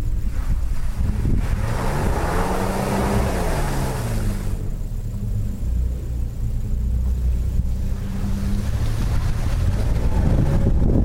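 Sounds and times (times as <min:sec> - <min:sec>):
truck engine running: 0:00.0 - 0:11.0
wind rushing over microphone: 0:00.0 - 0:11.0.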